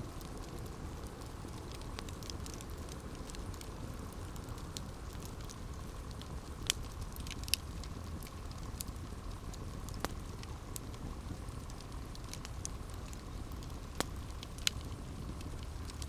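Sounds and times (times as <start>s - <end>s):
campfire low rumble: 0.0s - 16.0s
wood crackling and popping: 0.0s - 16.0s.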